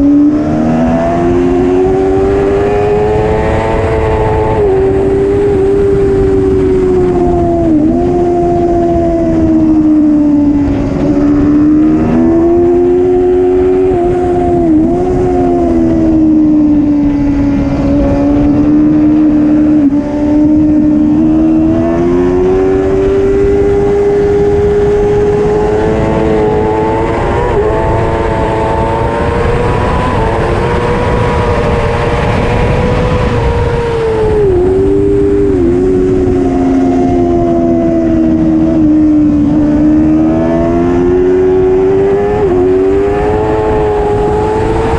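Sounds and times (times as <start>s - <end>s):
motorcycle engine at high revs: 0.0s - 44.9s
wind rushing: 0.0s - 44.9s.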